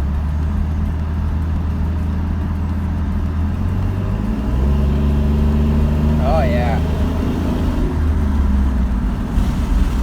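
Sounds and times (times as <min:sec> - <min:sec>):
truck engine droning while driving: 0:00.0 - 0:10.0.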